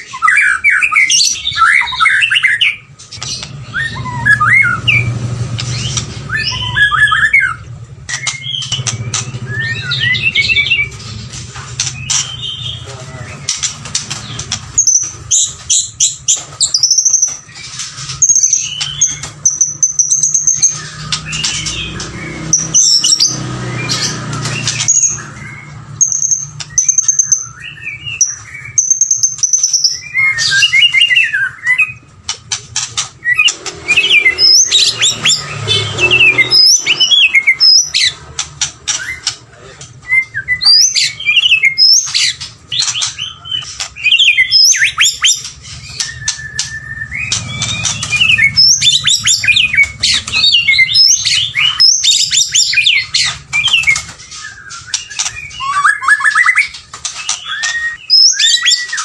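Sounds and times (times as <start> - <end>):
bird singing whistles and clicks: 0.0 - 11.0, 13.4 - 32.4, 40.0 - 59.0.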